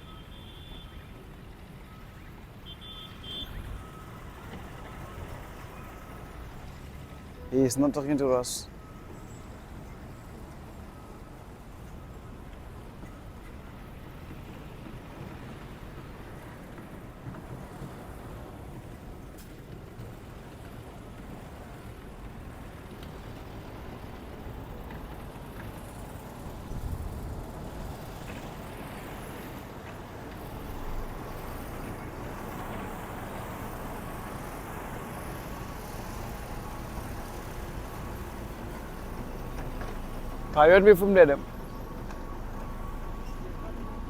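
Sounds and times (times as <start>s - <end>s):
engine and traffic noise: 0.0s - 44.0s.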